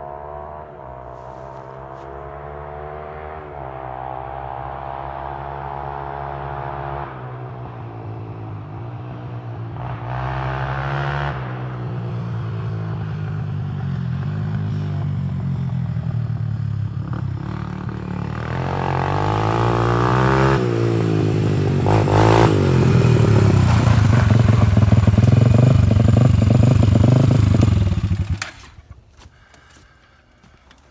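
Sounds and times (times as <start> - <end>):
atv engine revving: 0.0 - 30.9.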